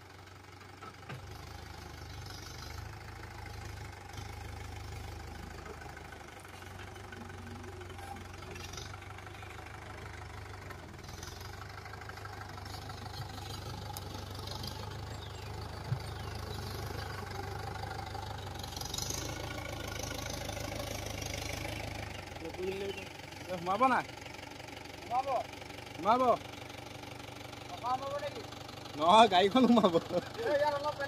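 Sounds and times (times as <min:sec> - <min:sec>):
tractor diesel engine droning: 0:00.0 - 0:31.0.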